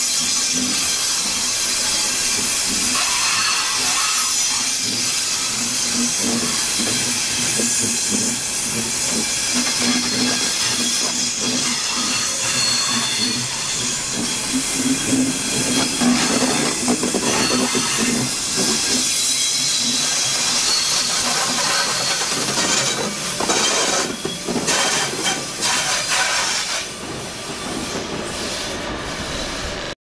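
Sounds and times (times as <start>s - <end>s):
train wheels hissing on track: 0.0s - 30.0s.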